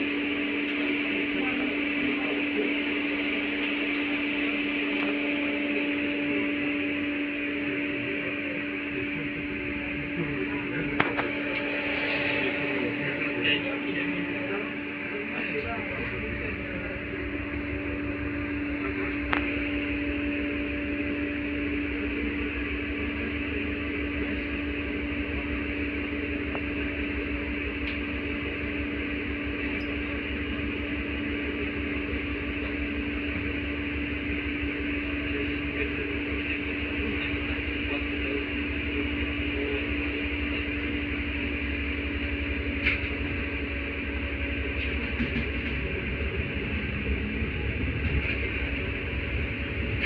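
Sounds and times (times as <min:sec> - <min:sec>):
tram electrical hum and rumble: 0:00.0 - 0:50.0.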